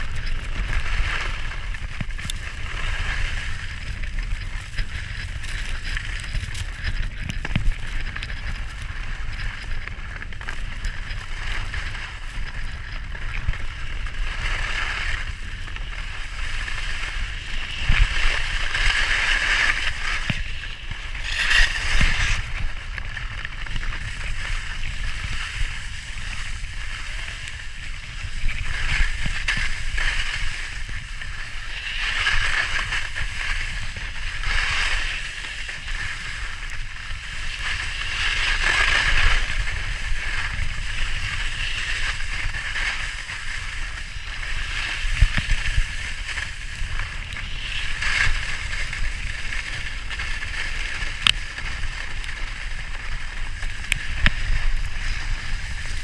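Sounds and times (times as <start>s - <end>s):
skis hissing on snow: 0.0s - 56.0s.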